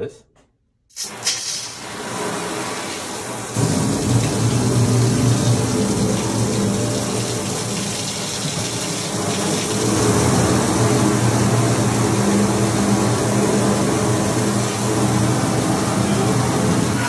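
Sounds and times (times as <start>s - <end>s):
water jet splashing into metal sink: 0.9s - 17.0s.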